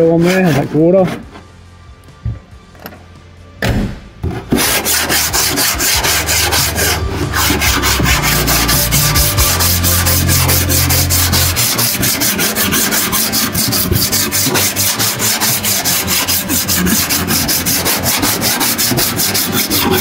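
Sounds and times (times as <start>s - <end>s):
file rasping on steel: 0.0s - 1.3s, 4.5s - 20.0s.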